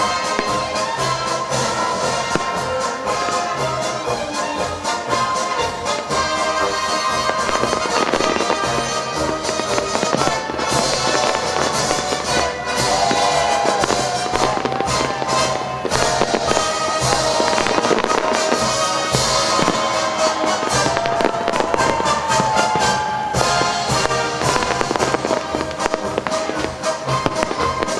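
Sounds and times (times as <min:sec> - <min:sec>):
fireworks bursting and crackling: 0:00.0 - 0:27.9
music playing: 0:00.0 - 0:27.9.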